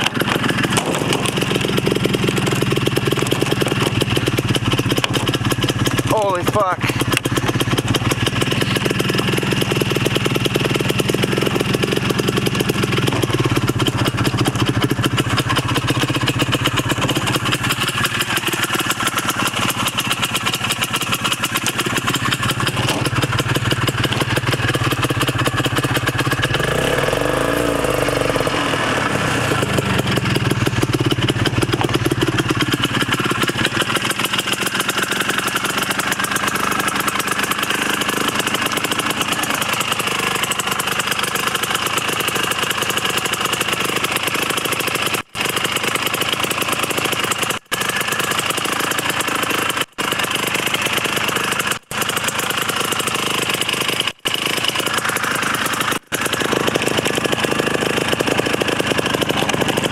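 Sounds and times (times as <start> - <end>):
snowmobile engine idling: 0.0 - 59.9.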